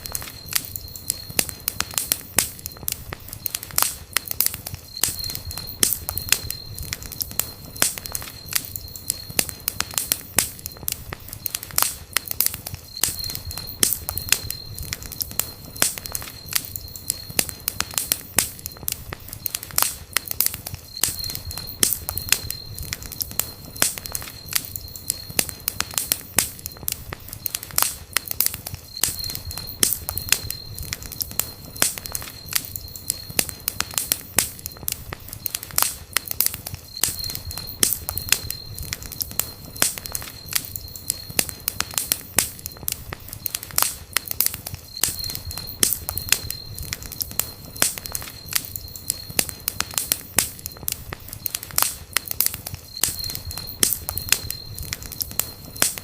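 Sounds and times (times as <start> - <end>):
thin high whistle: 0.0 - 11.7, 12.5 - 19.7, 20.5 - 34.8, 43.4 - 50.8, 51.4 - 56.0
campfire crackling and popping: 0.0 - 56.0.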